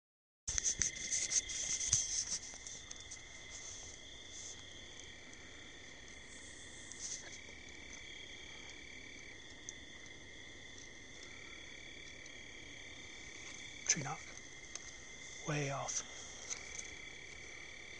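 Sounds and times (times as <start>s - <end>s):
crickets and insects trilling: 0.5s - 17.9s.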